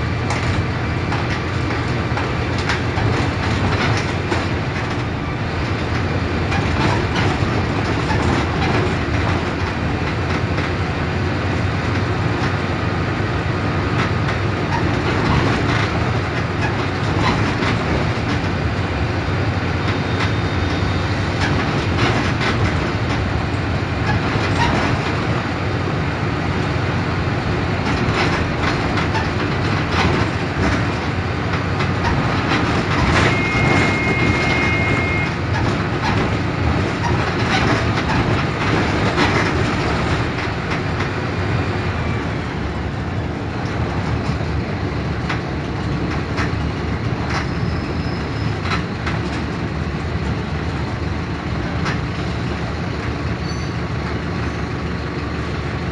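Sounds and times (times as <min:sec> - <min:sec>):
bus body rattling: 0:00.0 - 0:55.9
diesel bus engine running: 0:00.0 - 0:55.9
road noise: 0:00.0 - 0:55.9.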